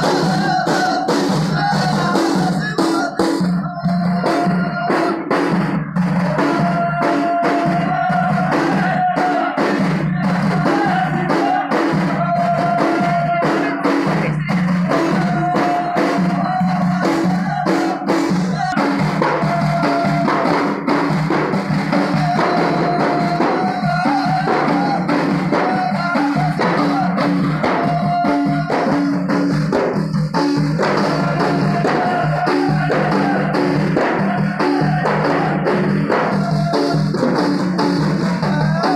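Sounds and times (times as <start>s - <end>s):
frame drums beating: 0.0s - 38.9s
men chanting in unison: 0.0s - 38.9s.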